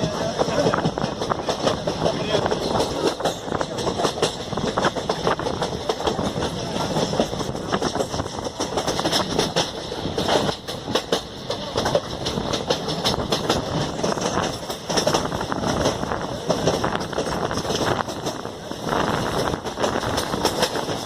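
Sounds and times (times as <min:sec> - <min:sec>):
train wheels clattering: 0:00.0 - 0:21.0.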